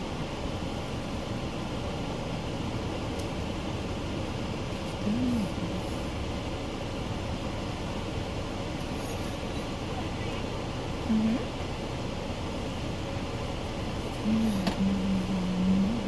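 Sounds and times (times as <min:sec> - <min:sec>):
car cabin engine rumble: 0:00.0 - 0:16.0.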